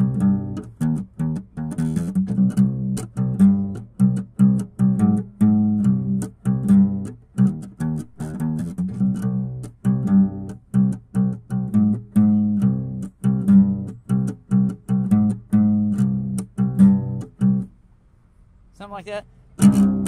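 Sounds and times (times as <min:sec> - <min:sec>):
plucked guitar music: 0:00.0 - 0:17.8, 0:19.6 - 0:20.0.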